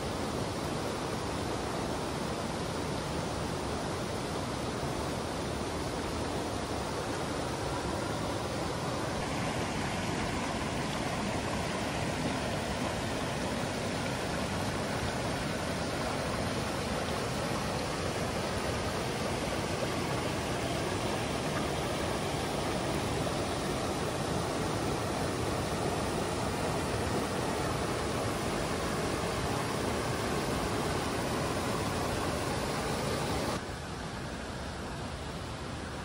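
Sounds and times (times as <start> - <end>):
waterfall roaring: 0.0 - 36.0.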